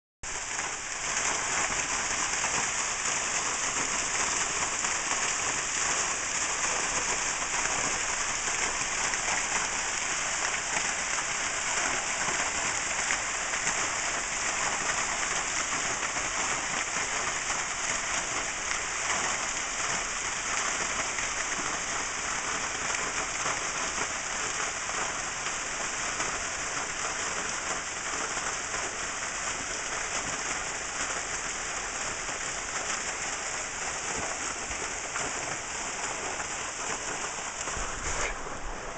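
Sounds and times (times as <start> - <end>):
waterfall splashing onto gravel: 0.2 - 38.9.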